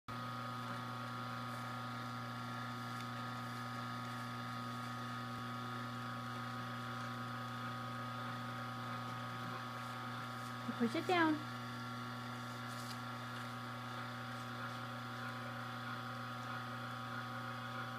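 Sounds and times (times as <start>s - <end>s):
juicer motor humming and whining: 0.1s - 17.9s.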